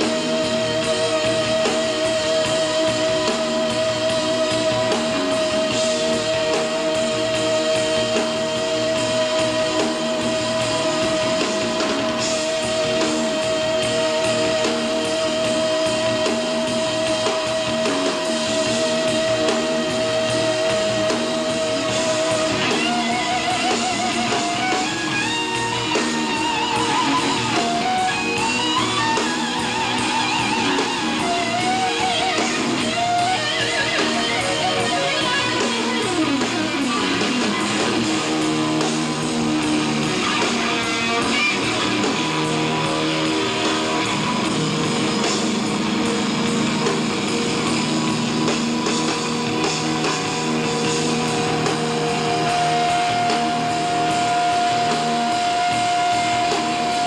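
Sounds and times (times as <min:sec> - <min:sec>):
electric guitar solo: 0:00.0 - 0:57.0
rock band playing: 0:00.0 - 0:57.0.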